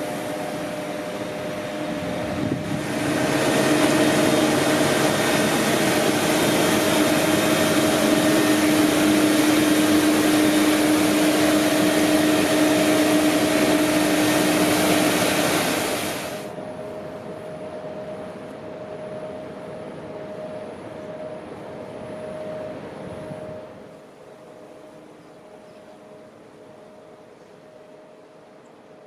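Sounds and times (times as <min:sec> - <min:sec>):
street sweeper running: 0:00.0 - 0:25.0.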